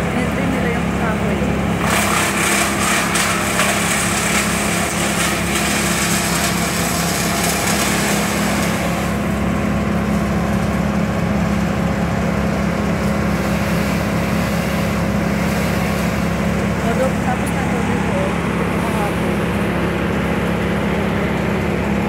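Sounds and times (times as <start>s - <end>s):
machine engine droning: 0.0s - 22.0s.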